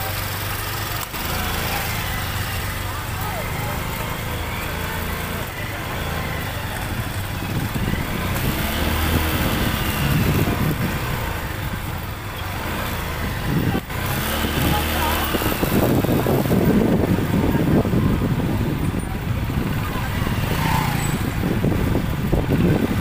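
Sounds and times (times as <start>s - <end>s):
chatter of people: 0.0s - 23.0s
motorcycle engine at low speed: 0.0s - 23.0s.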